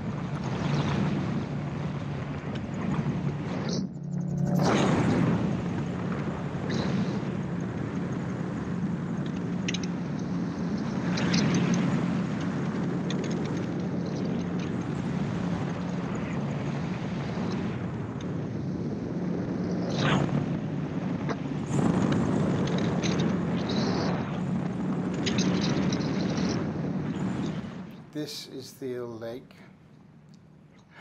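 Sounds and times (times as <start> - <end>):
aircraft engine and propeller: 0.0 - 28.0.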